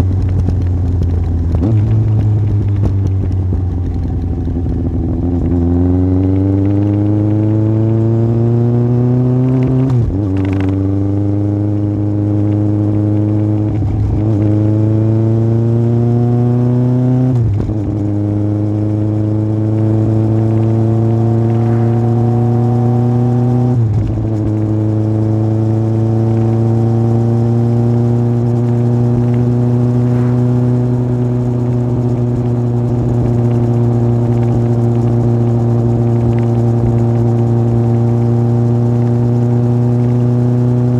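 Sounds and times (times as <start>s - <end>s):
motorcycle engine accelerating through gears: 0.0s - 40.9s.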